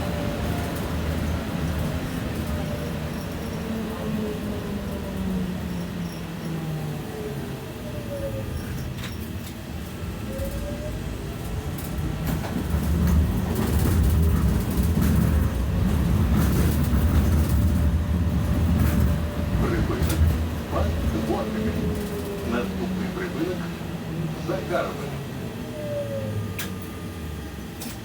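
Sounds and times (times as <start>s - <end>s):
tram motor whine: 0.0s - 28.0s
wheel-on-rail rumble: 0.0s - 28.0s.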